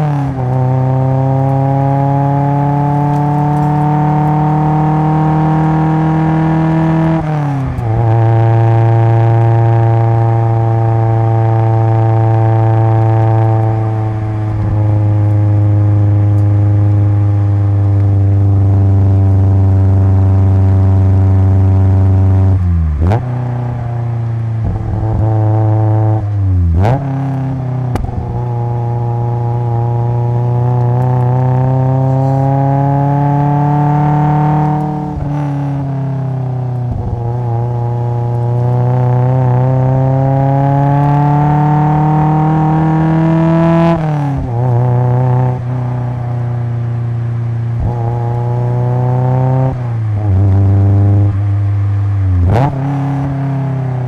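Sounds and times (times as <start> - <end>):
car exhaust revving: 0.0 - 54.0.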